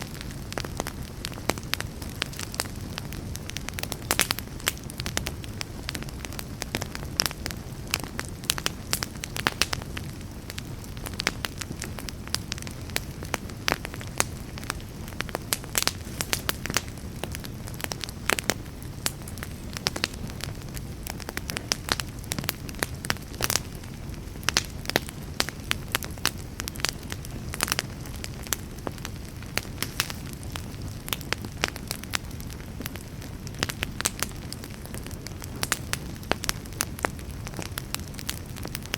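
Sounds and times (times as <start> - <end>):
fire crackling and popping: 0.0 - 38.9
wood fire low rumble: 0.0 - 38.9.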